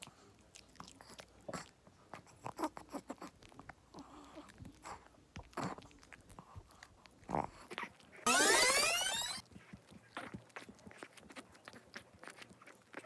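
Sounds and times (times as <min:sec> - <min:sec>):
dog chewing: 0:00.0 - 0:08.2, 0:09.4 - 0:13.0.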